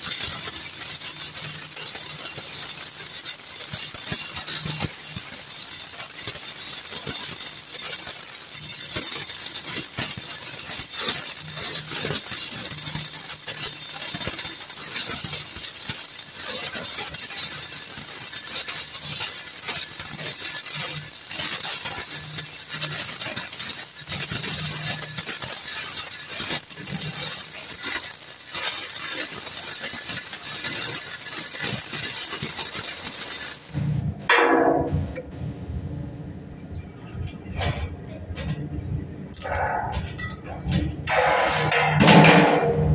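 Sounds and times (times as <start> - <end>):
welding arc crackling: 0.0 - 42.9.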